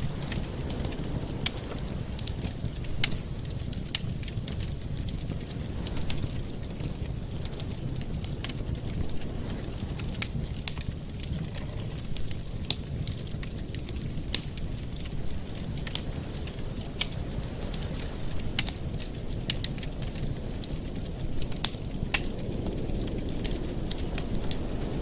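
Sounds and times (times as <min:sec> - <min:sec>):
burning wood crackling and popping: 0:00.0 - 0:25.0
campfire flame rushing: 0:00.0 - 0:25.0.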